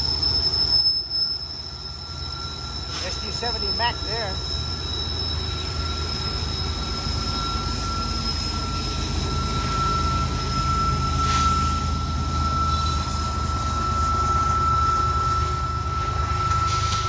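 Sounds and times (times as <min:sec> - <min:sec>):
freight train rumbling past: 0:00.0 - 0:17.0
steel wheel squeal: 0:00.0 - 0:17.0.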